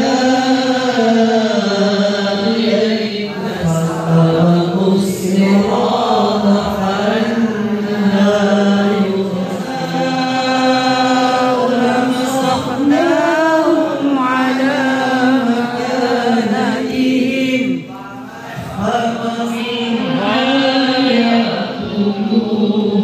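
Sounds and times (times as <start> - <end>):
man chanting recitation: 0.0 - 23.0.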